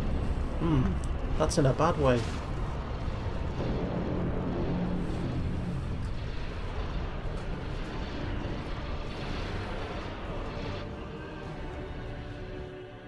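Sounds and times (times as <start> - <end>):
low rumble of explosions and engines: 0.0 - 13.0.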